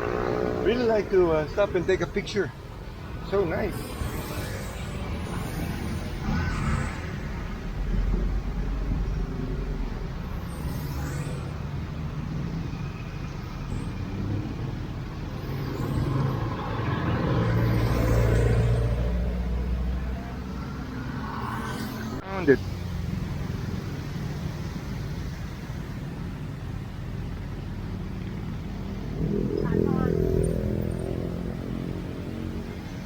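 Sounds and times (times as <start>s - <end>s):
vehicles passing on street: 0.0s - 33.0s.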